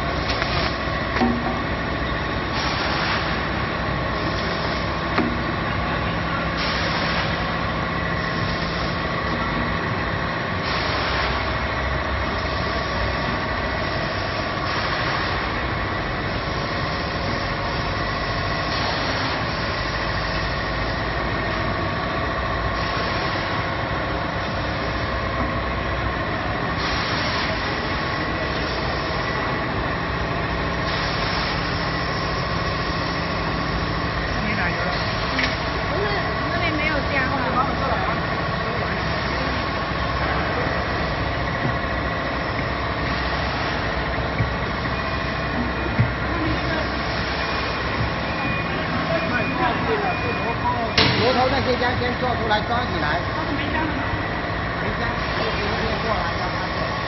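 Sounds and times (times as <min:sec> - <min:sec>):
factory machinery din: 0:00.0 - 0:57.0
machinery hum: 0:00.0 - 0:57.0.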